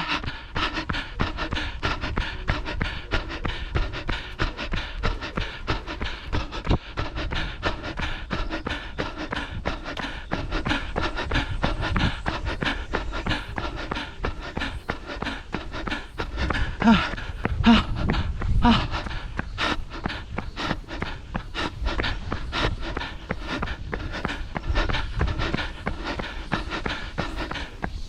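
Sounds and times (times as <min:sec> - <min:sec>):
hard panting breaths: 0:00.0 - 0:28.0.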